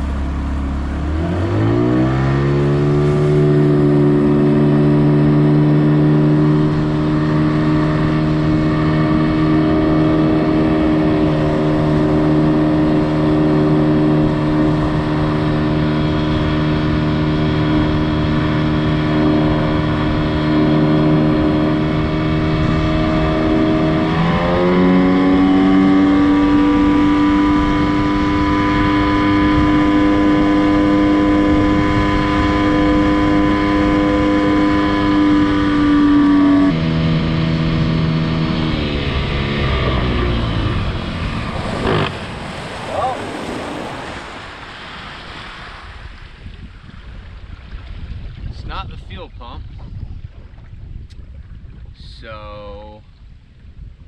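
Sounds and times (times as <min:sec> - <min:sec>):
outboard motor revving: 0:00.0 - 0:54.0.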